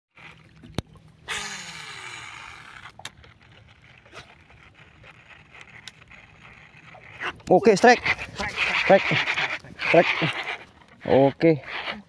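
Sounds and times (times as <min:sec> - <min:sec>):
fishing reel spool whirring: 0:00.1 - 0:12.0
reel clicks: 0:00.1 - 0:12.0.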